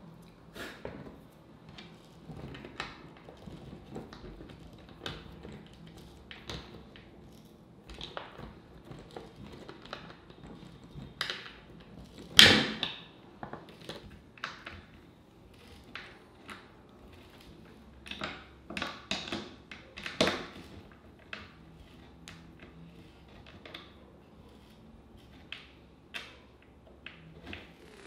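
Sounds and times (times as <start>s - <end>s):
skateboard parts clicking and knocking: 1.6s - 28.0s.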